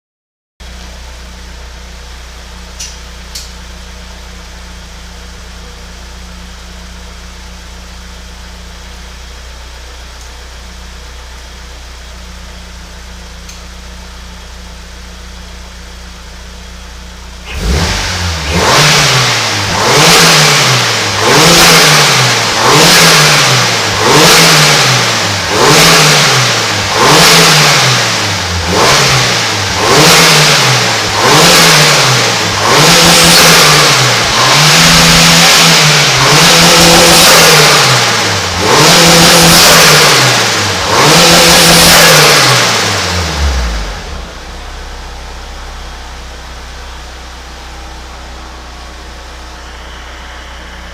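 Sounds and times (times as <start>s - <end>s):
car engine idling and revving: 0.6s - 50.9s.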